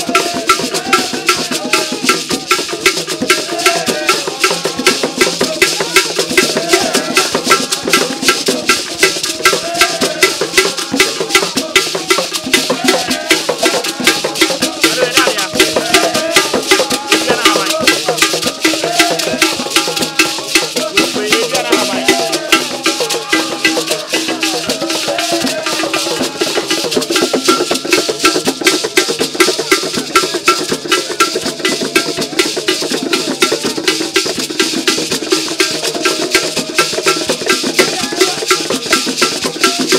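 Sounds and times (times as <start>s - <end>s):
hand drums playing fast rhythm: 0.0s - 39.9s
voices singing: 0.0s - 39.9s.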